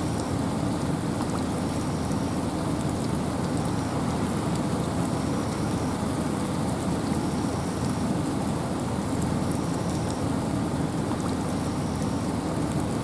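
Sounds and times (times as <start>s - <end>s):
raindrops pattering: 0.0s - 13.0s.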